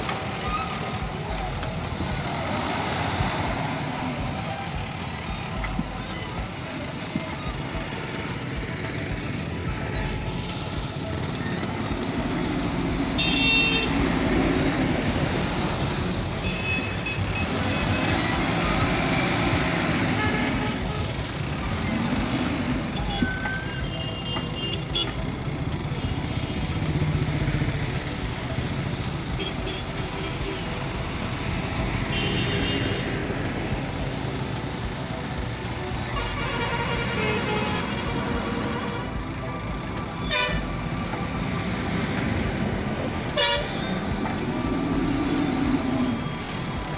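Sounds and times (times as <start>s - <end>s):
diesel engine rumbling: 0.0s - 46.9s
road traffic: 0.0s - 46.9s.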